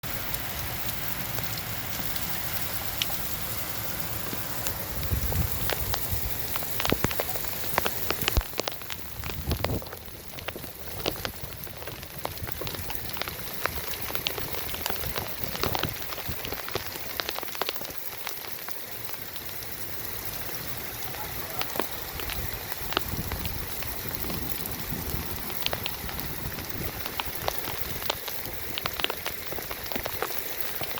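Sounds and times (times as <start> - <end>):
rain falling: 0.0 - 30.9
raindrops ticking on a surface: 0.0 - 30.9.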